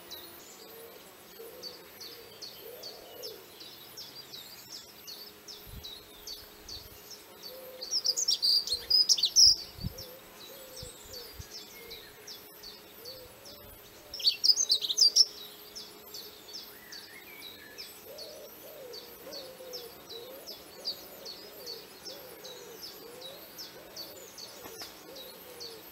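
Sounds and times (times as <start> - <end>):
bird chirping: 0.0 - 25.9
low wavering bird calls: 0.6 - 4.3, 6.1 - 25.9.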